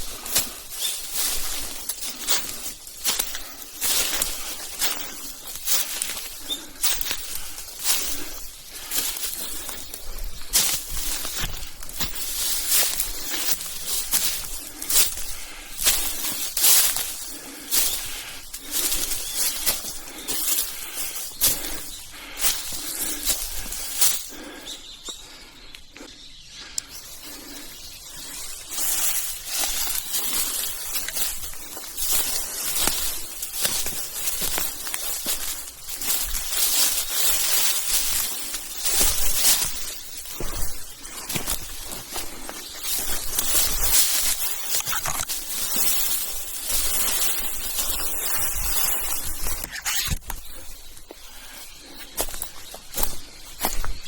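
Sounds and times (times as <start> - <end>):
twigs snapping: 0.0 - 24.4, 28.6 - 50.5
rustling: 0.0 - 24.6, 27.0 - 50.8
footsteps crunching through leaves: 0.0 - 24.8, 26.9 - 54.0.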